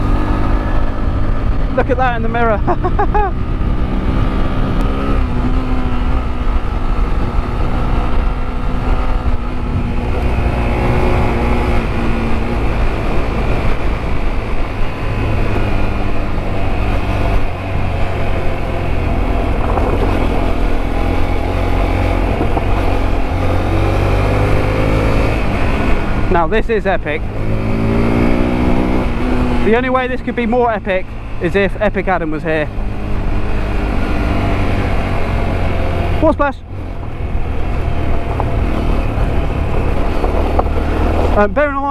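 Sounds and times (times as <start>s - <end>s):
low rumble of wind and ground: 0.0s - 41.9s
motorcycle engine revving: 0.0s - 41.9s.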